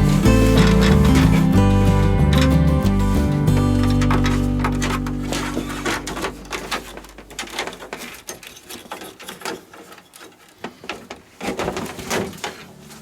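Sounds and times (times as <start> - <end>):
parts clicking and clattering: 0.0 - 13.0.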